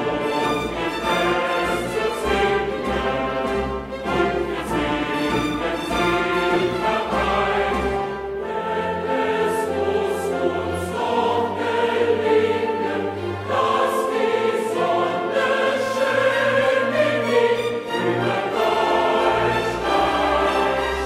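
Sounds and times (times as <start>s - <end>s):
choir singing held notes: 0.0s - 21.0s
orchestra playing: 0.0s - 21.0s.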